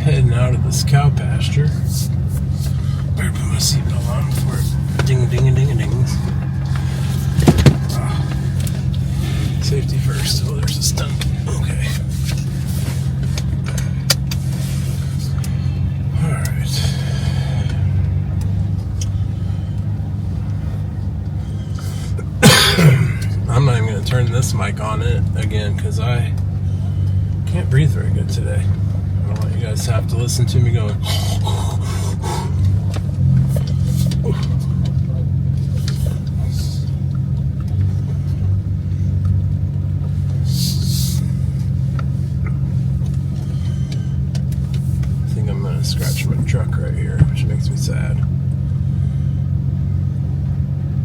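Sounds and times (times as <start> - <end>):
truck engine droning in cab: 0.0 - 51.0.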